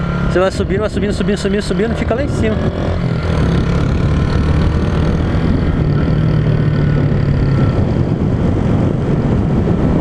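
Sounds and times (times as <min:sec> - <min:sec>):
heavy wind: 0:00.0 - 0:10.0
motorcycle engine running: 0:00.0 - 0:10.0
road noise: 0:00.0 - 0:10.0.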